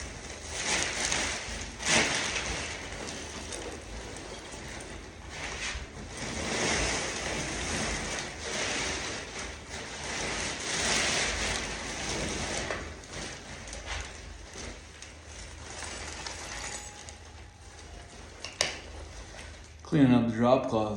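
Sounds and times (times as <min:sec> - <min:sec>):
plaster debris pouring into a bag: 0:00.0 - 0:19.8
cloth rustling: 0:00.0 - 0:19.9.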